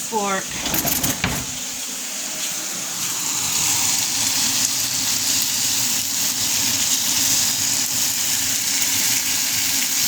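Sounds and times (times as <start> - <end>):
bacon sizzling in a frying pan: 1.6 - 10.0.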